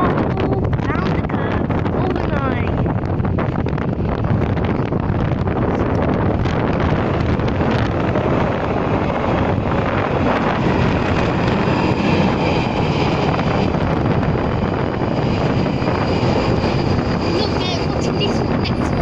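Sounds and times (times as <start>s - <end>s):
rushing air: 0.0s - 19.0s
train wheels rumbling on rails: 0.0s - 19.0s.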